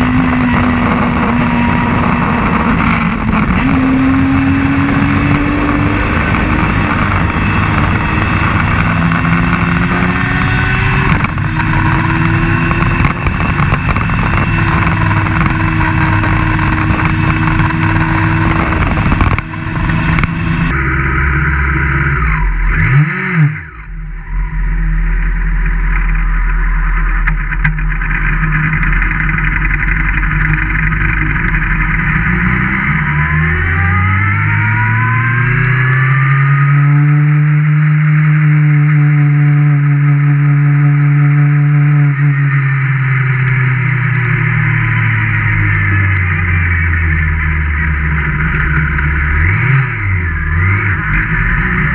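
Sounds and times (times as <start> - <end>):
race car engine running hard: 0.0 - 51.9.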